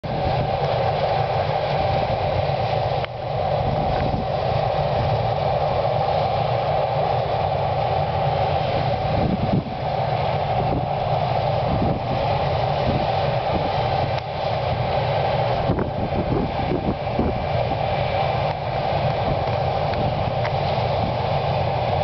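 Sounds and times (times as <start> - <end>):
combine harvester drone: 0.0 - 22.0.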